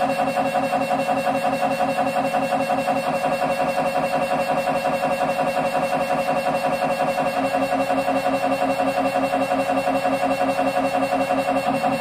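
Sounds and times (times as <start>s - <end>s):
mri scanner pulsing buzz: 0.0s - 12.0s.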